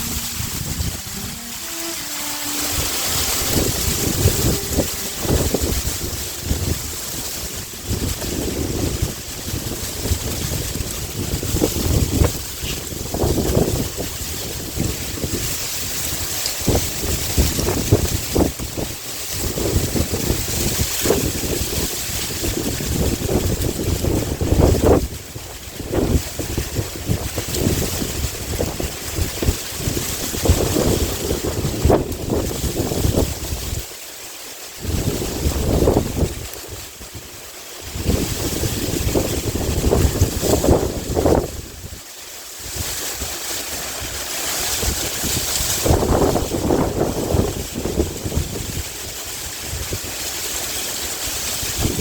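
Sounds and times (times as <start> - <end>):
wind gusting on microphone: 0.0 - 33.9, 34.8 - 52.0
wind rustling bamboo leaves: 0.0 - 52.0.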